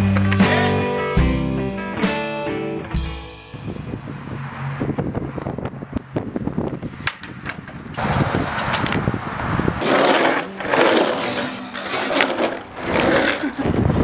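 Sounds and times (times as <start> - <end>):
skateboard wheels rolling on concrete: 0.0 - 3.0, 4.0 - 14.0.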